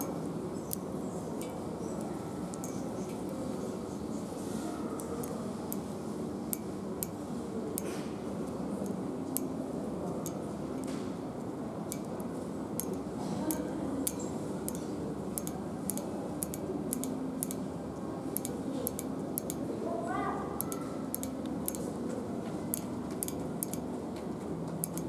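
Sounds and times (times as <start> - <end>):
shop background noise: 0.0 - 25.0.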